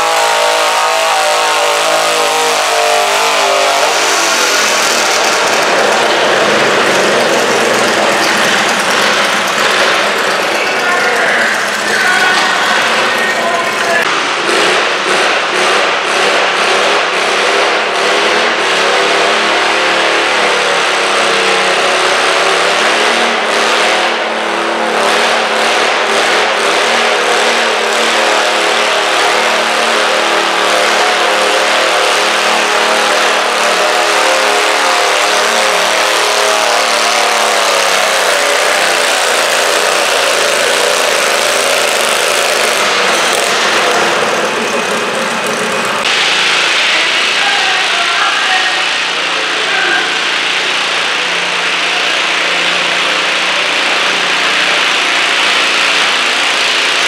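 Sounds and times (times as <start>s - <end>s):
tractor engine at high revs: 0.0s - 57.0s.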